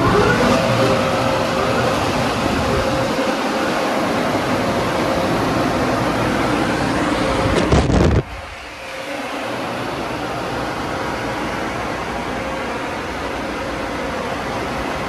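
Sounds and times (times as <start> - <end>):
car wash machine rushing: 0.0 - 15.0.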